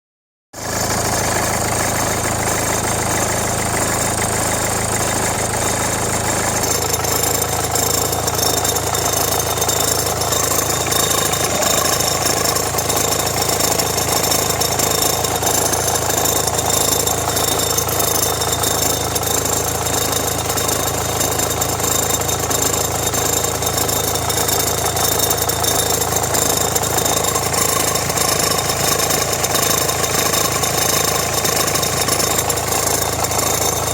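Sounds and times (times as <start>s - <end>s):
diesel engine idling: 0.6s - 33.9s
fine rattle from belt drive: 0.6s - 33.9s.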